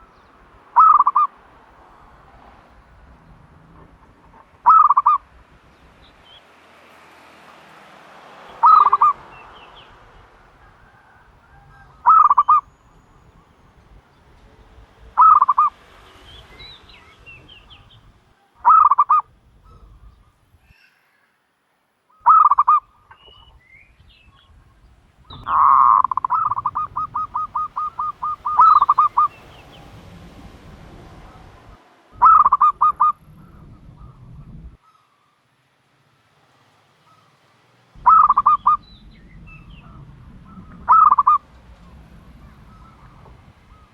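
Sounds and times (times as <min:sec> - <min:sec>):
dove calling in pulsed notes: 0:00.0 - 0:02.2, 0:03.0 - 0:06.4, 0:08.5 - 0:21.2, 0:22.1 - 0:24.7, 0:25.3 - 0:30.1, 0:30.8 - 0:35.2, 0:38.0 - 0:43.9.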